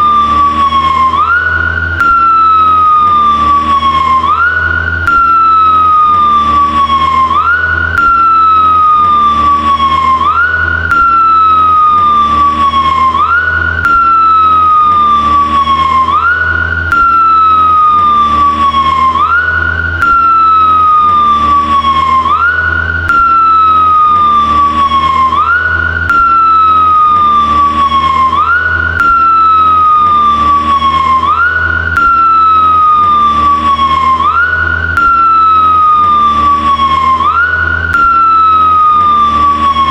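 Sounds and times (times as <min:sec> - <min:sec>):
low engine hum: 0:00.0 - 0:39.9
police siren wailing: 0:00.0 - 0:39.9.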